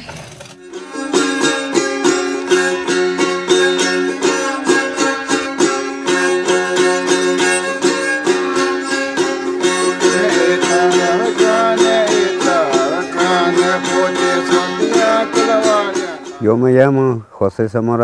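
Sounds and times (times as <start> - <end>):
rapidly strummed string instrument: 0.5 - 16.4
high wavering melody: 0.6 - 16.6
steady held notes: 0.6 - 16.7.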